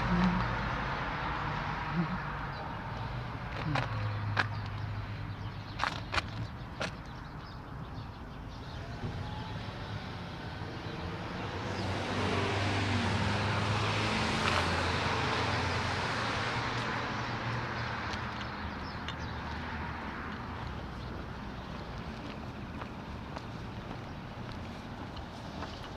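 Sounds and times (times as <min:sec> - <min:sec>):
road vehicle passing: 0:00.0 - 0:25.9.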